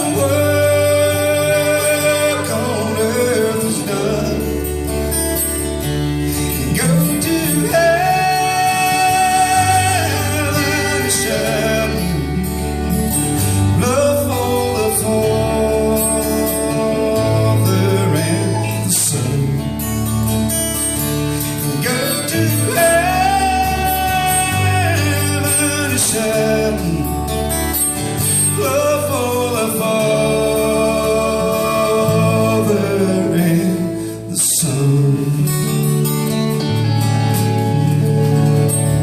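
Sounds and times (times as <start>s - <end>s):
person singing: 0.0s - 5.6s, 6.4s - 19.8s, 21.7s - 36.2s
guitar and bass: 0.0s - 39.0s.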